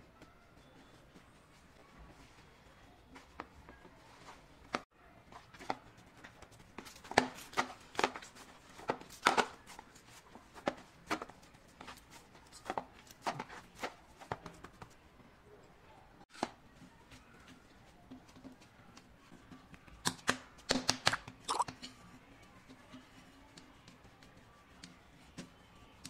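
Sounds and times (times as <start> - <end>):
dough patted on stone countertop: 0.0 - 15.4, 16.2 - 26.0
hands kneading dough: 0.0 - 15.5, 16.2 - 26.0.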